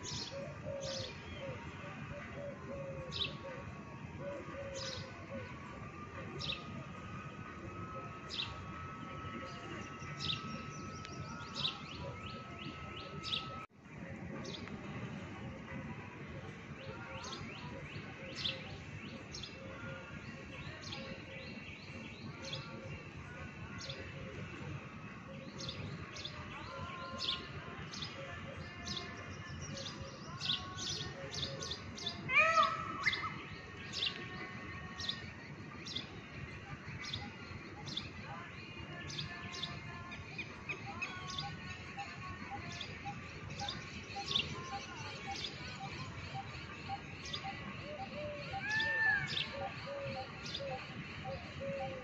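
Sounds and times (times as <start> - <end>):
birds chirping: 0.0 - 13.7, 16.5 - 52.0.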